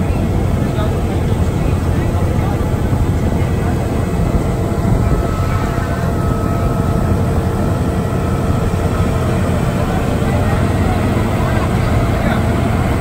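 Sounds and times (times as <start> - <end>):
heavy machinery diesel drone: 0.0 - 13.0.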